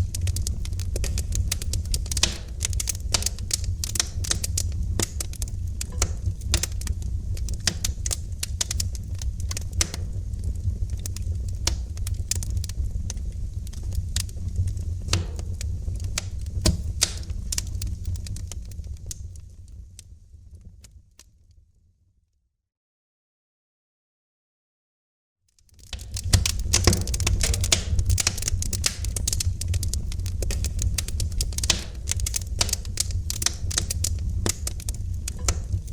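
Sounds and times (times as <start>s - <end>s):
wood fire crackling and popping: 0.0s - 21.3s, 25.6s - 35.9s
low fire rumble: 0.0s - 21.6s, 25.6s - 35.9s.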